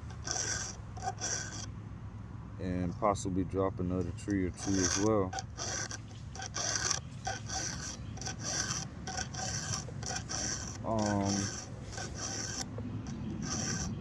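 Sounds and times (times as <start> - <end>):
file rasping on chainsaw chain: 0.0 - 1.7, 2.6 - 14.0.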